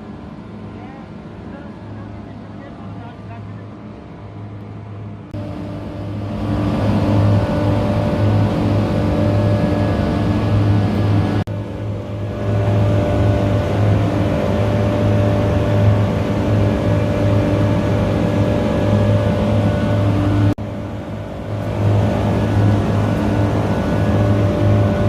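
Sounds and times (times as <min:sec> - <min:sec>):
compressor humming and whining: 0:00.0 - 0:25.0.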